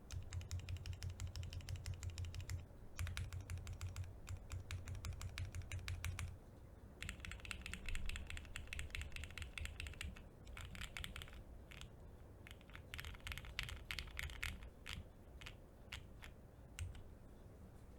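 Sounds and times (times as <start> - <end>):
mechanical keyboard typing: 0.0 - 6.4, 7.0 - 17.0.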